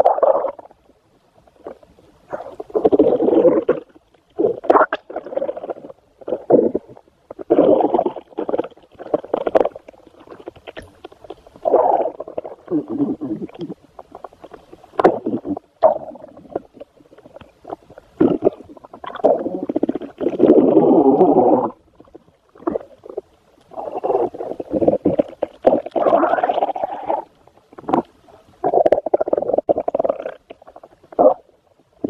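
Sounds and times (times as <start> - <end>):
stomach growling: 0.0 - 32.0.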